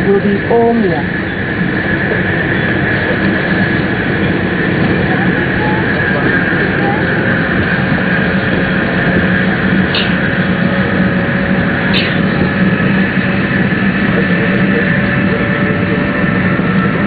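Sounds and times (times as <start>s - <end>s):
steady motor tones: 0.0s - 17.0s
train cabin running noise: 0.0s - 17.0s.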